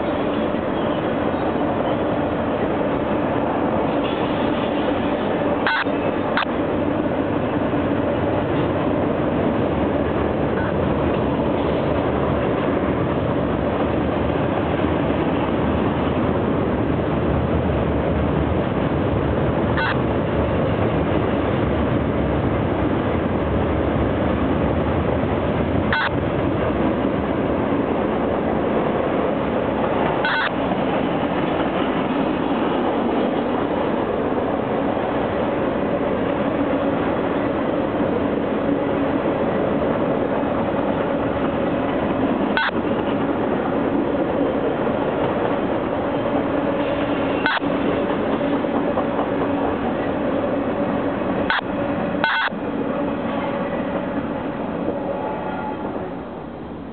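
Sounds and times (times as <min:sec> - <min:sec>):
train cars rumbling over bridge: 0:00.0 - 0:56.9.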